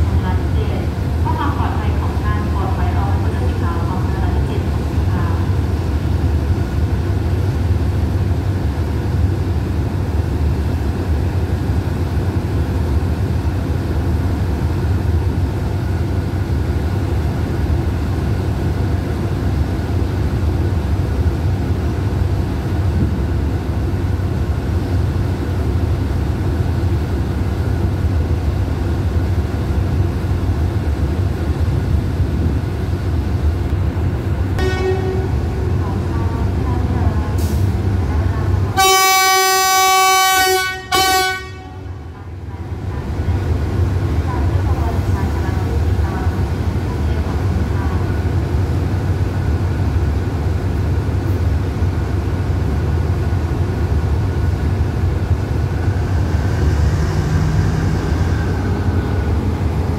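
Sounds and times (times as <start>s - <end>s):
diesel locomotive idling: 0.0s - 59.9s.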